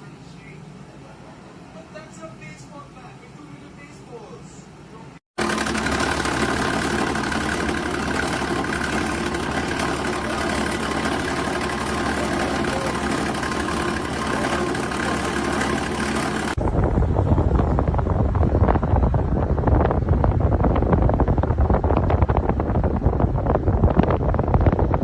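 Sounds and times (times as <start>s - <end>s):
compressor hum: 0.0s - 25.0s
fan rushing: 0.0s - 25.0s.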